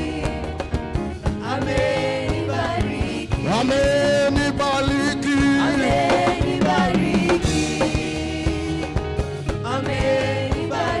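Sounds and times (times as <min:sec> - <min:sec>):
church praise band music: 0:00.0 - 0:11.0
people singing: 0:00.0 - 0:11.0.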